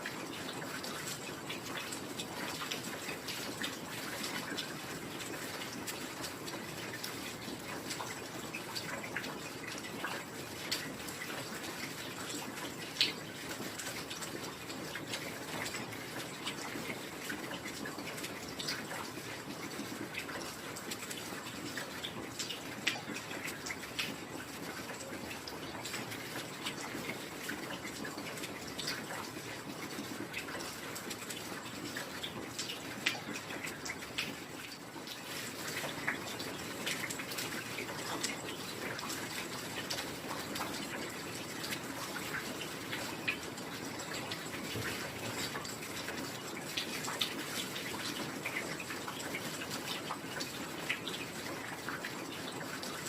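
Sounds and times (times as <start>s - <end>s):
drips ticking and splashing: 0.0s - 53.0s
heavy rain: 0.0s - 53.0s.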